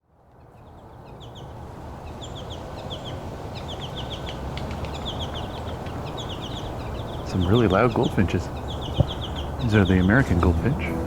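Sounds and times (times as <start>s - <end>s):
finches chattering calls: 0.6s - 10.8s.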